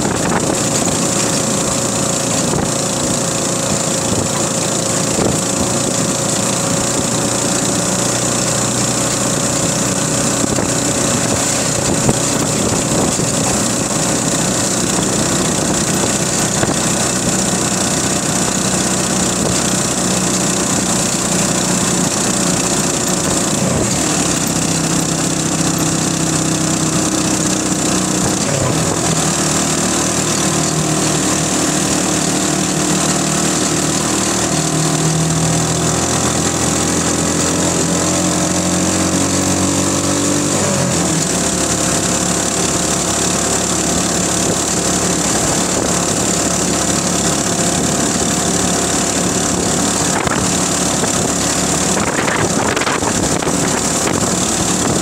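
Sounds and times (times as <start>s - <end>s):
road and wind noise: 0.0s - 55.0s
small motorcycle engine running: 0.0s - 55.0s.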